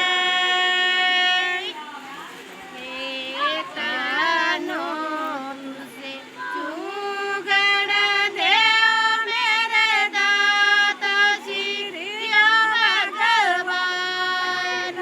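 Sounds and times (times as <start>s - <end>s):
women singing folk song: 0.0s - 15.0s.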